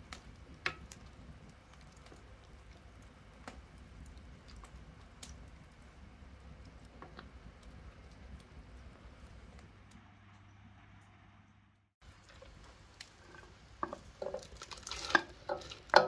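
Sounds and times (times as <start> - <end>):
wood fire crackling: 0.0 - 10.0, 12.0 - 16.0.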